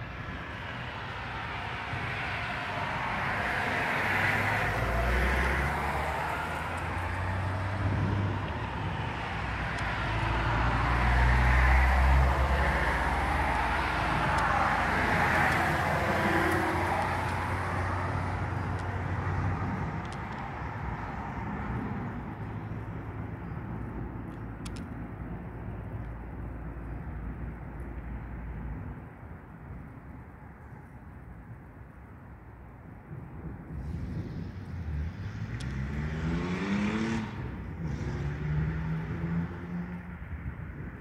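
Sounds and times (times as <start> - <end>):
road traffic hiss: 0.0 - 41.0.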